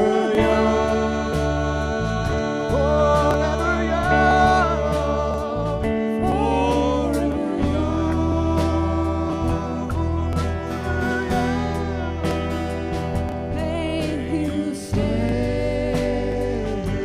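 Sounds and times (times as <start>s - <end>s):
plucked acoustic guitar: 0.0s - 17.0s
steady bass: 0.0s - 17.0s.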